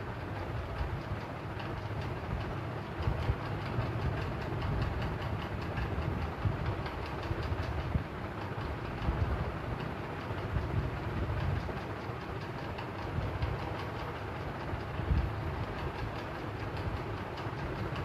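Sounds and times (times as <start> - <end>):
ceiling fan whirring: 0.0 - 18.0
fan clicking rattle: 0.0 - 18.0.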